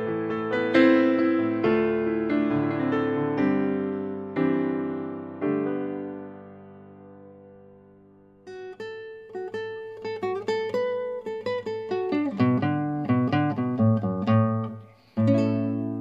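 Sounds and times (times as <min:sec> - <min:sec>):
acoustic guitar picked melody: 0:00.0 - 0:16.0.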